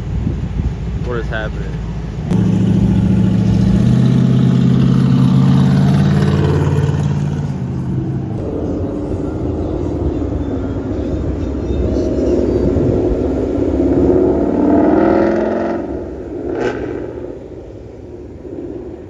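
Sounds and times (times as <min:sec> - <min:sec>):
car engine at high revs: 0:01.7 - 0:08.8, 0:09.5 - 0:19.0
engines rising in pitch: 0:02.3 - 0:19.0.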